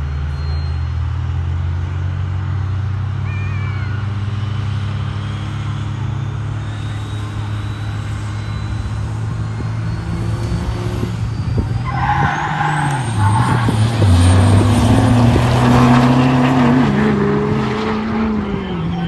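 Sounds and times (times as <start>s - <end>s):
diesel engine pulling hard: 0.0s - 19.0s
turbocharger whistle: 0.2s - 1.0s, 3.2s - 19.0s.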